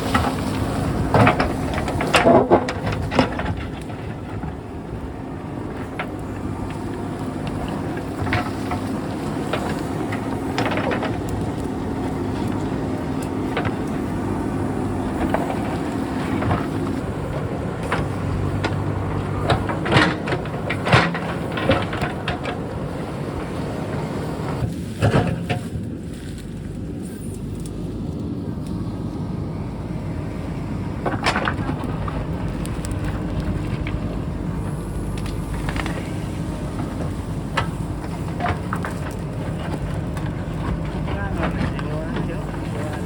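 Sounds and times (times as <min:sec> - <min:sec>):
rock and soil clattering: 0:00.0 - 0:28.4, 0:30.2 - 0:43.0
diesel engine running: 0:00.0 - 0:43.0.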